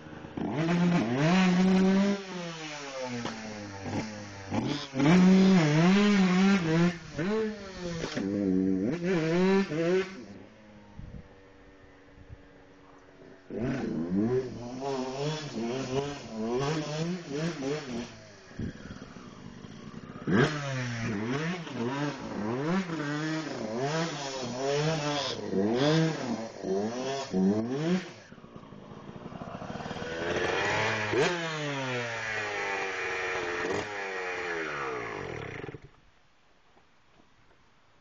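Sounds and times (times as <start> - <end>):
dirt bike engine revving: 0.0 - 11.6, 13.2 - 35.9.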